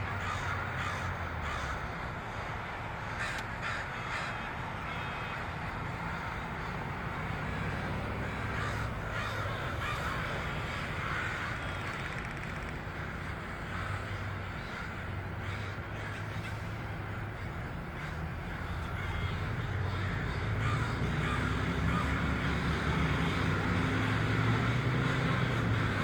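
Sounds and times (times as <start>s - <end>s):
crows cawing: 0.0s - 26.0s
low traffic hum: 0.0s - 26.0s.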